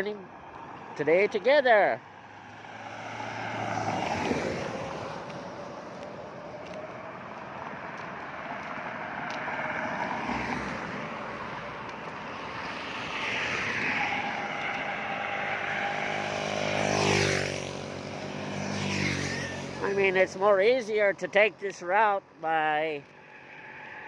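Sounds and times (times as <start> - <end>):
highway traffic: 0.0 - 24.0
vehicle passing close: 1.0 - 21.6.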